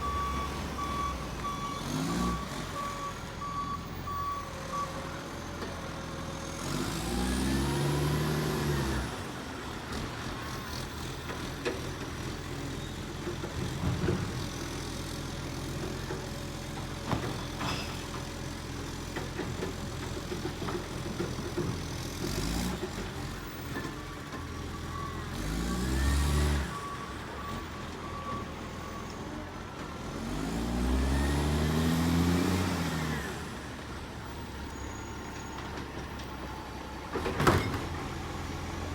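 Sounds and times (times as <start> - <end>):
diesel engine idling and revving: 0.0 - 38.9.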